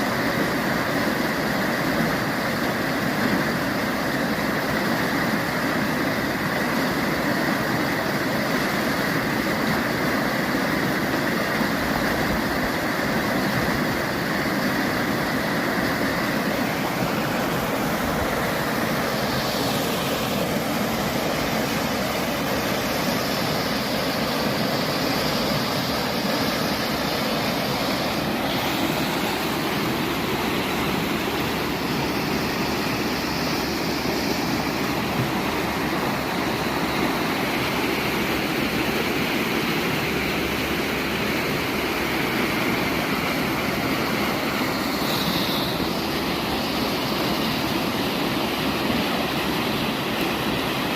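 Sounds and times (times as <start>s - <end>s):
waves washing on shore: 0.0s - 50.9s.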